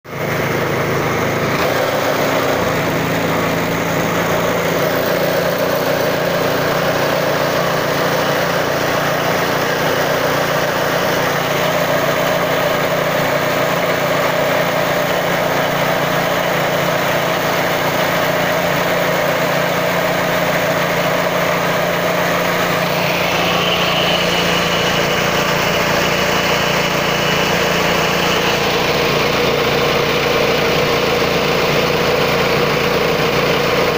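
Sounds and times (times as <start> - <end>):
grinding mill running: 0.0 - 33.9
high-pitched whine: 0.1 - 33.9.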